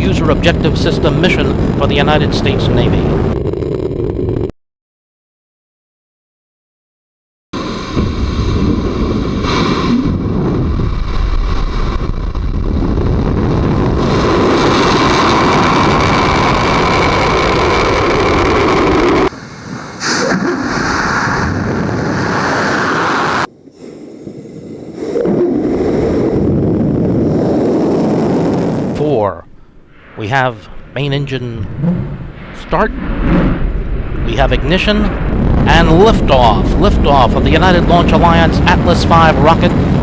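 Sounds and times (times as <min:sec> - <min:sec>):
rocket engine roaring: 0:00.0 - 0:04.5, 0:07.6 - 0:40.0.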